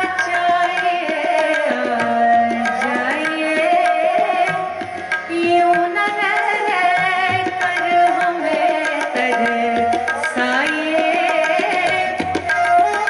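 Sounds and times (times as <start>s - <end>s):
tabla strokes: 0.0s - 13.0s
woman singing: 0.0s - 13.0s.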